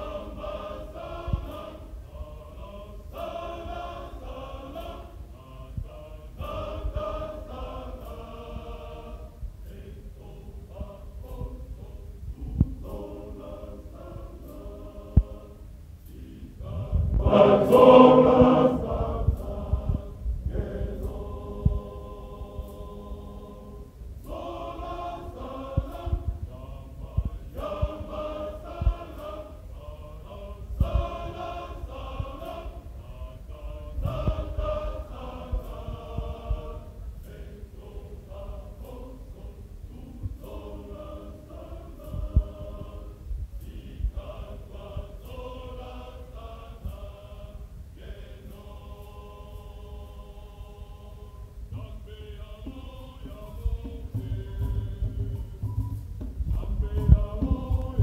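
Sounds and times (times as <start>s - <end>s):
low rumble: 0.0s - 58.0s
men's choir singing: 0.0s - 58.0s.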